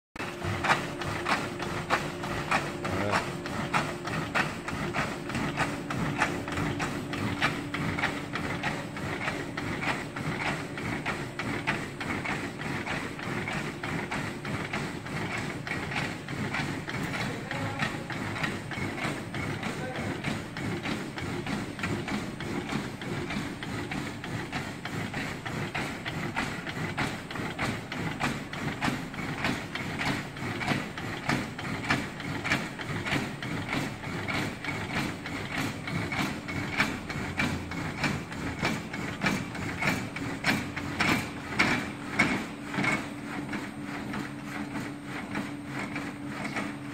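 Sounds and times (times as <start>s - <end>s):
machine motor hum: 0.2s - 46.9s
regular mechanical knocking: 0.2s - 46.9s.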